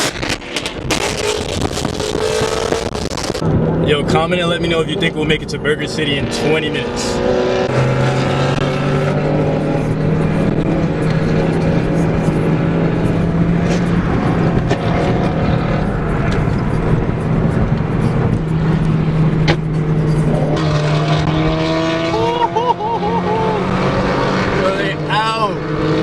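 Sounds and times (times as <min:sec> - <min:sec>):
car engine drone: 0:00.0 - 0:26.0
road and wind noise: 0:00.0 - 0:26.0.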